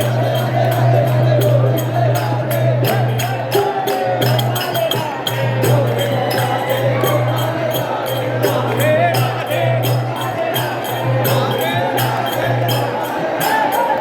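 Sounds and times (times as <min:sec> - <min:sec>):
voices singing along: 0:00.0 - 0:14.0.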